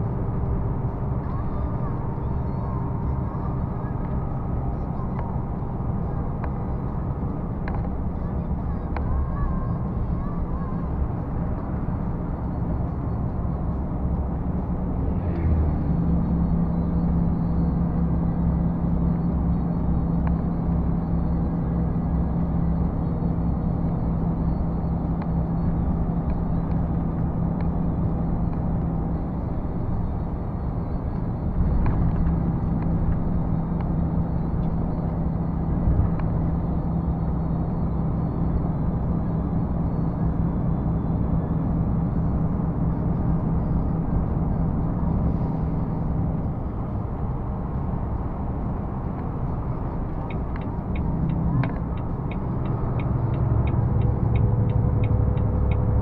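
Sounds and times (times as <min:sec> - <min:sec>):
steady engine hum: 0:00.0 - 0:56.0
truck engine and road drone: 0:00.0 - 0:56.0.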